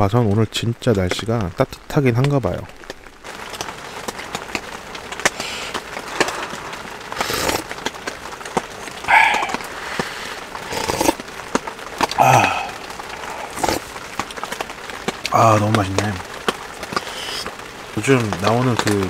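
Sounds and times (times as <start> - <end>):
rain hissing on a tent: 0.0 - 19.0.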